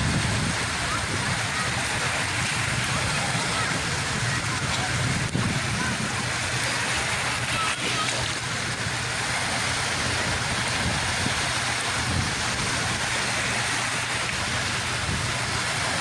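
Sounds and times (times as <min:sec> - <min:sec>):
sea waves washing: 0:00.0 - 0:16.0.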